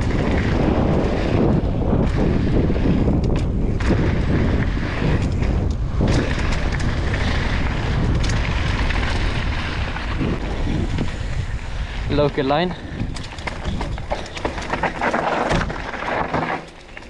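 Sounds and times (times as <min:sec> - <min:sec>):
wind buffeting microphone: 0:00.0 - 0:16.2
bike clicks and knocks: 0:00.0 - 0:17.0
bike tyre noise: 0:00.0 - 0:17.0.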